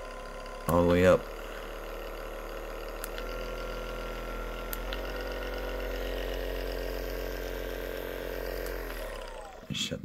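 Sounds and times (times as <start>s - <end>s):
massage gun motor humming: 0.0s - 10.0s.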